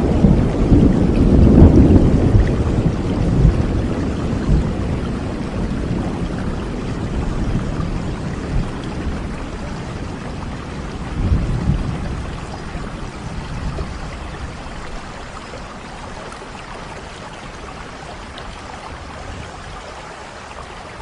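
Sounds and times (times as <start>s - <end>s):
low rolling thunder: 0.0s - 19.8s
steady rain: 0.0s - 21.0s.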